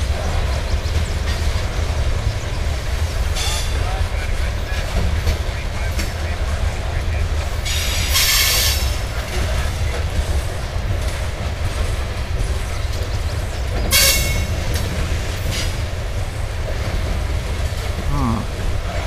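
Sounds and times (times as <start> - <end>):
steel wheels rumbling on rail: 0.0 - 19.0.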